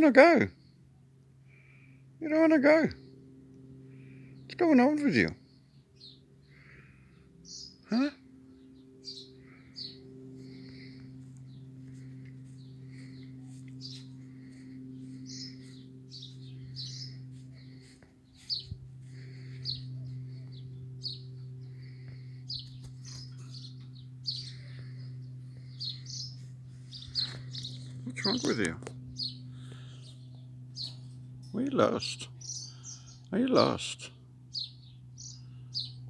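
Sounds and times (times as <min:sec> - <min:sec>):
birds chirping: 0:00.0 - 0:36.0
steady low hum: 0:00.0 - 0:36.0.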